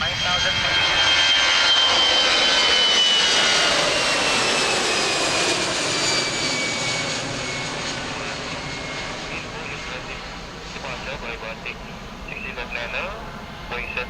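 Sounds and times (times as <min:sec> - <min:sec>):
jet engine roar and whine: 0:00.0 - 0:14.0.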